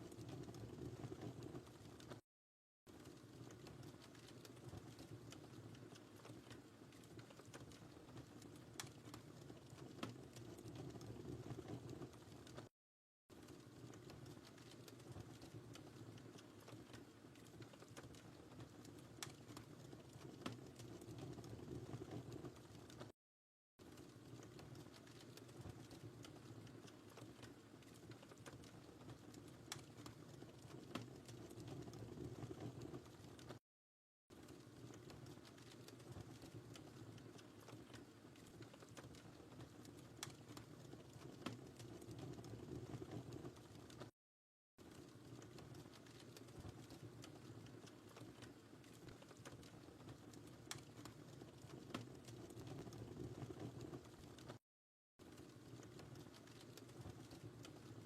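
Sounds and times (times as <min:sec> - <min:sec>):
wood fire crackling: 0:00.0 - 0:02.2, 0:02.9 - 0:12.7, 0:13.3 - 0:23.2, 0:23.8 - 0:33.6, 0:34.3 - 0:44.1, 0:44.8 - 0:54.6, 0:55.2 - 0:58.0.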